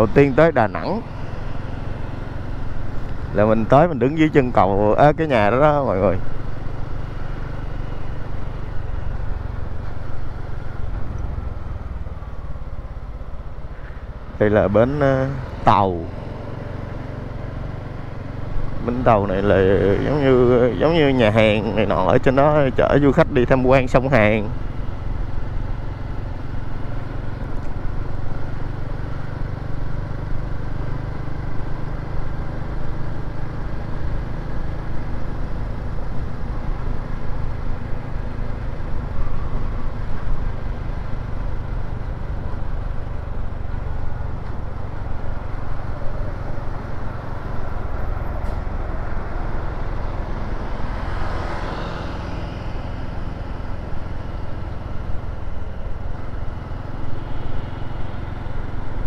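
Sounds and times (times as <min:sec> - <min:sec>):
motor scooter engine rumble: 0:00.0 - 0:59.0
road and air noise: 0:00.0 - 0:59.0.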